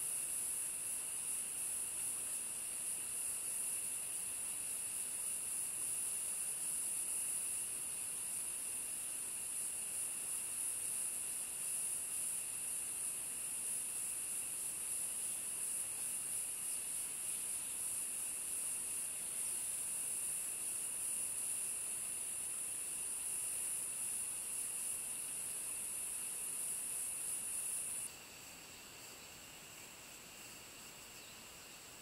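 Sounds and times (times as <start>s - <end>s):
insects chorus hissing: 0.0s - 32.0s.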